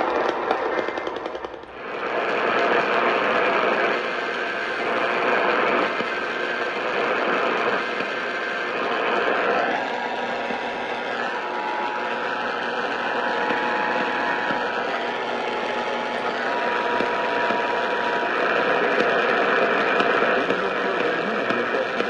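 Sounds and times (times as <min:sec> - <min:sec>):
faint steady tones: 0:00.0 - 0:22.0
radio static hiss: 0:01.8 - 0:22.0.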